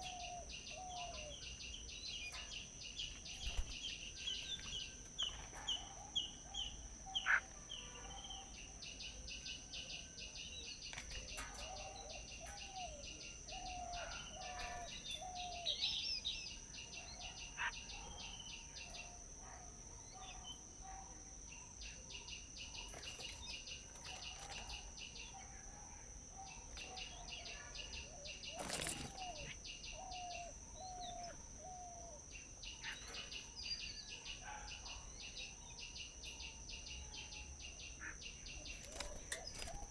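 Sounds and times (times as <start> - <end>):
birds chirping and calling: 0.0 - 19.3, 22.0 - 25.7, 26.4 - 39.9.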